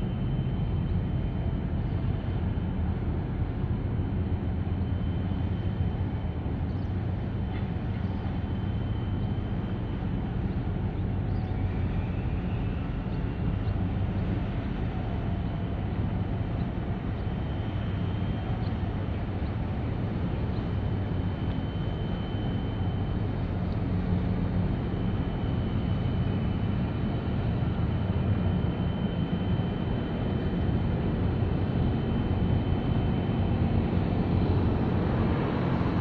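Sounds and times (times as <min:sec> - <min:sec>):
faint high whine: 0:00.0 - 0:36.0
ship diesel engine drone: 0:00.0 - 0:36.0.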